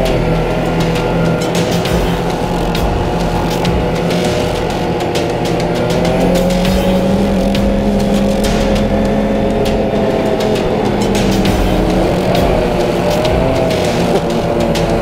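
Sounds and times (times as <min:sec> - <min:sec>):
snowmobile engine running: 0:00.0 - 0:15.0
track noise: 0:00.0 - 0:15.0
wind: 0:00.0 - 0:15.0.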